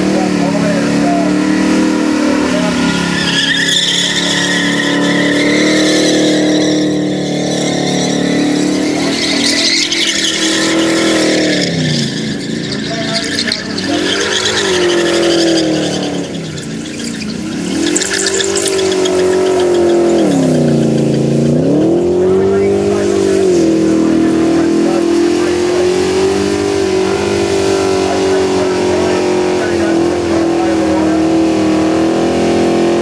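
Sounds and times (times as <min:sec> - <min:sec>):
engine at high revs: 0:00.0 - 0:33.0
spinning tyres hissing: 0:00.0 - 0:33.0.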